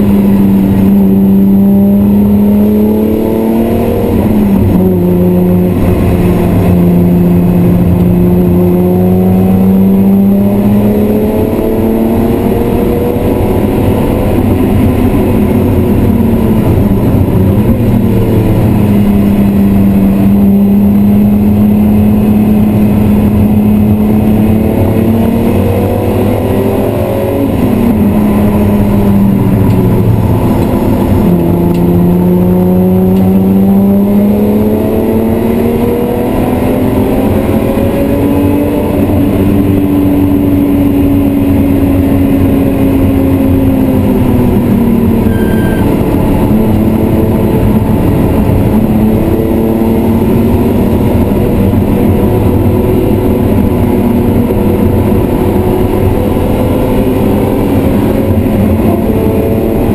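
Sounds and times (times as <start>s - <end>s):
car engine revving under load: 0.0s - 59.9s.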